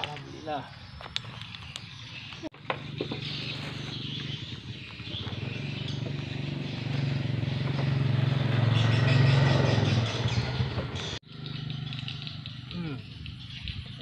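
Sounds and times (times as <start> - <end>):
small vehicle engine humming: 1.4 - 14.0.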